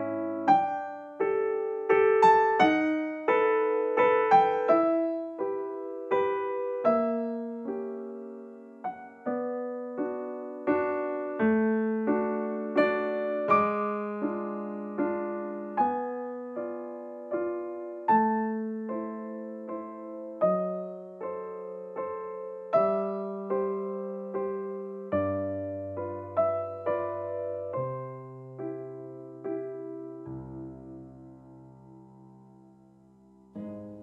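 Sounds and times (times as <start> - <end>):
calm piano music: 0.0 - 34.0.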